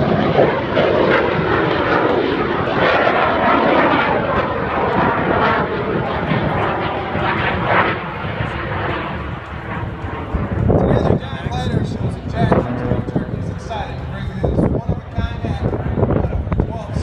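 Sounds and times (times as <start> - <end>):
airplane engine passing: 0.0 - 17.0.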